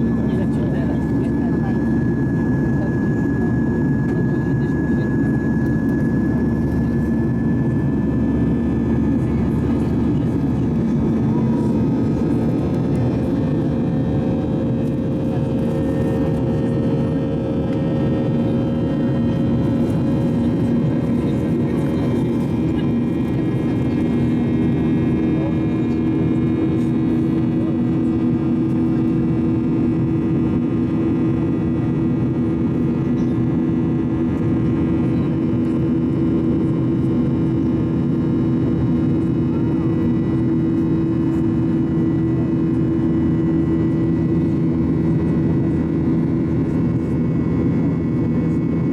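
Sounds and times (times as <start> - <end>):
jet engines droning in cabin: 0.0 - 48.9
steady hums: 0.0 - 48.9.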